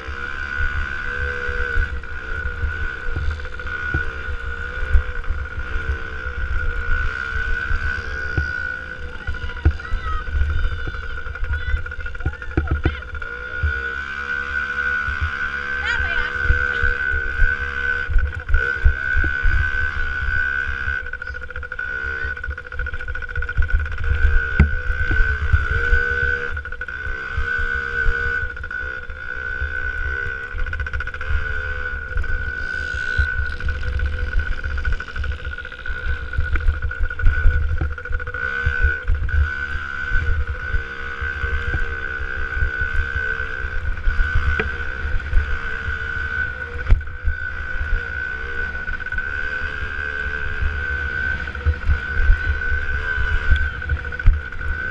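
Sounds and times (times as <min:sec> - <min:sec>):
high whine: 0:00.0 - 0:54.9
motocross bike engine revving: 0:00.0 - 0:54.9.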